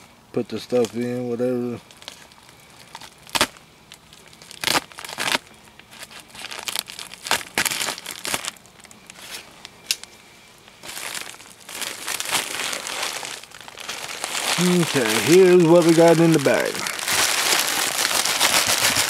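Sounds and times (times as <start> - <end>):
plastic bag crinkling: 1.7 - 9.5, 10.7 - 19.0.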